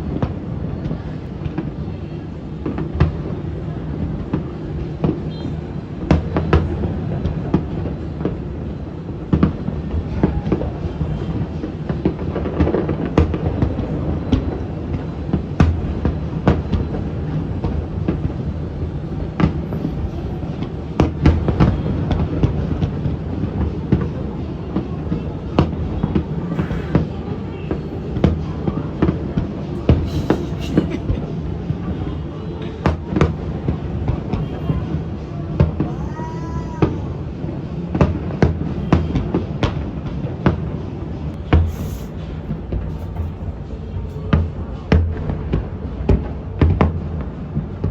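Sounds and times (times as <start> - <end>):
fireworks rumbling and cracking: 0.0 - 47.9.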